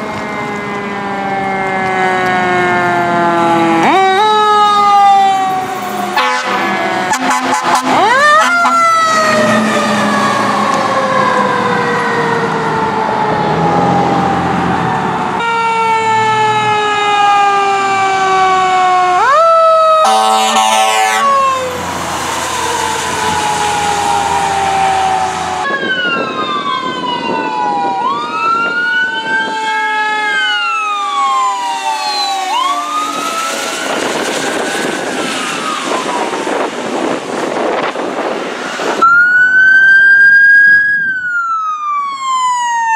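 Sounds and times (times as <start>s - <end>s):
fire truck sirens wailing: 0.0s - 42.9s.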